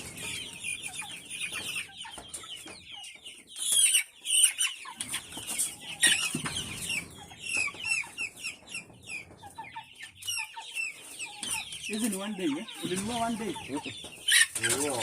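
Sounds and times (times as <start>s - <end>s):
chicks peeping and clucking: 0.0s - 15.0s.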